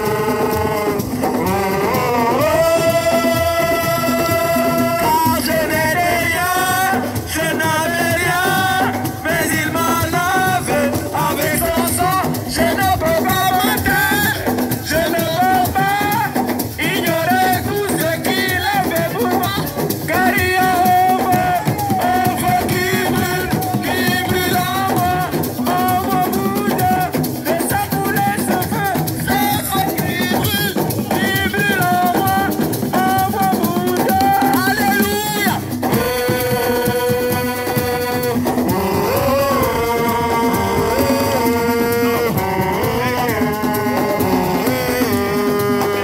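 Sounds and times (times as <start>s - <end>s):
percussion: 0.0s - 46.0s
person singing: 0.0s - 46.0s.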